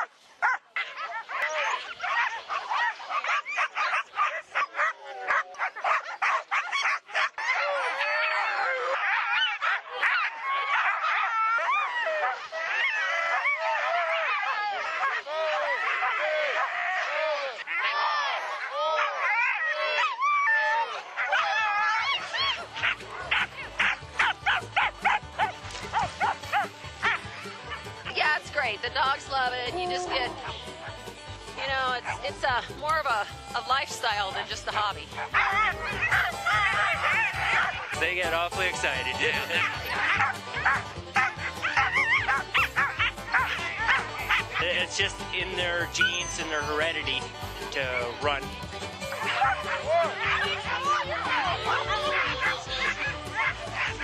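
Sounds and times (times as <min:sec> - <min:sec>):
sled dogs barking and yipping: 0:00.0 - 0:54.0.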